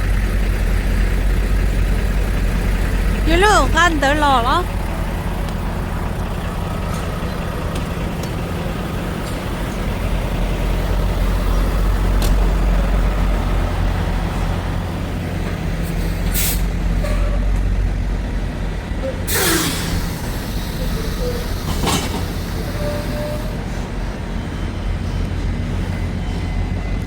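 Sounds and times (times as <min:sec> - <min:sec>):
road noise: 0:00.0 - 0:27.0
truck engine running: 0:00.0 - 0:27.0.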